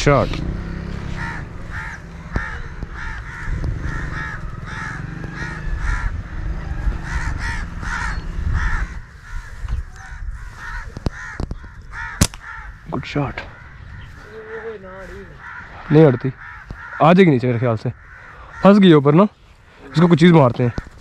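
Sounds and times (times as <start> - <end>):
crows cawing: 0.5 - 21.0.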